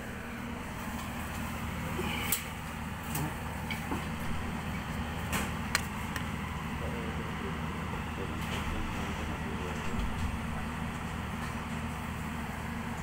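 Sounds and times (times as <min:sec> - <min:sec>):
refrigeration unit humming: 0:00.0 - 0:13.0.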